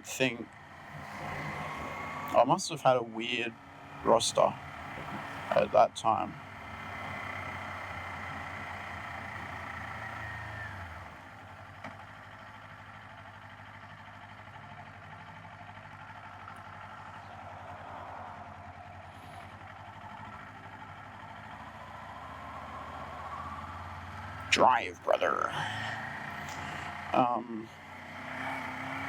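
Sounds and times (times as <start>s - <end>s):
road and wind noise: 0.0s - 29.0s
motorcycle engine running: 3.4s - 29.0s.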